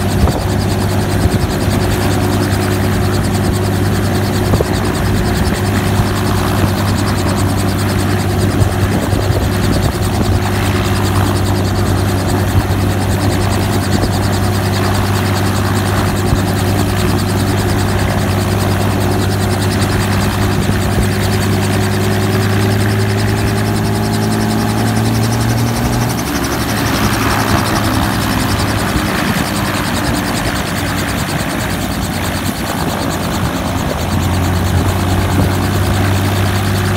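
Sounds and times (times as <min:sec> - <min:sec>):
helicopter engine and rotor drone: 0:00.0 - 0:36.9.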